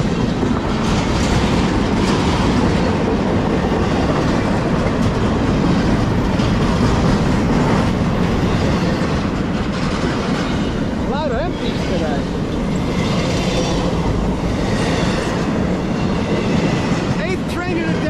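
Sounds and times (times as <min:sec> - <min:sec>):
freight train wheels rumbling: 0:00.0 - 0:18.0
wheels clacking over rail joints: 0:00.0 - 0:18.0.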